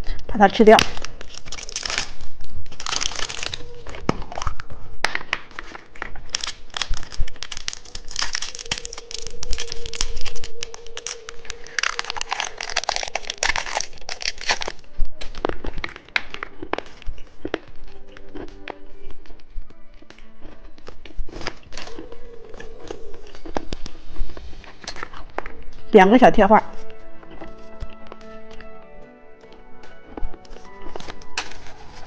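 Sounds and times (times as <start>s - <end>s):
candy wrapper crinkling and tearing: 0.0s - 25.9s, 26.7s - 32.0s.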